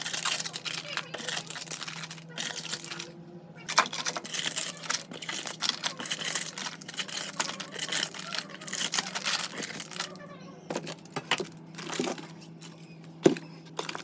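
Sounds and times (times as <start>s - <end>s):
plastic packaging crinkling: 0.0s - 3.1s, 3.7s - 14.0s
steady low hum: 0.0s - 14.0s.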